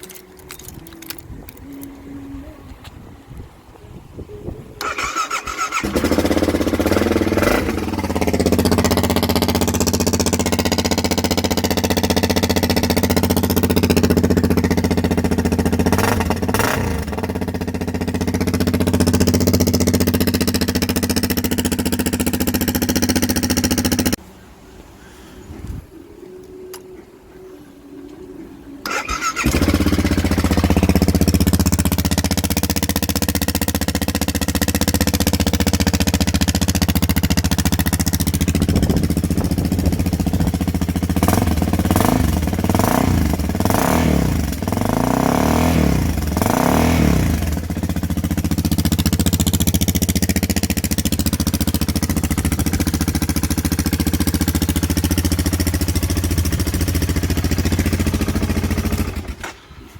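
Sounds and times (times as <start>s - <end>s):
engine throttle blips: 4.3s - 24.2s, 27.9s - 59.9s
motorcycle engine starting and idling: 4.8s - 24.2s, 28.8s - 59.9s.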